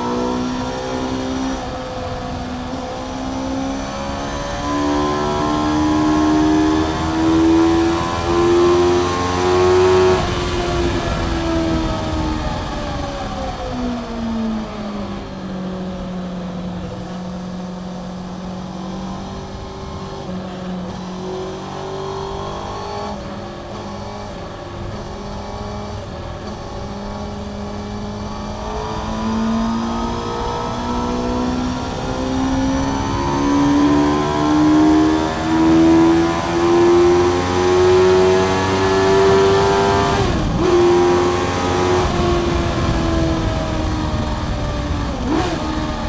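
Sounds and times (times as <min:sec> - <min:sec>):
motorcycle engine: 0:00.0 - 0:46.0.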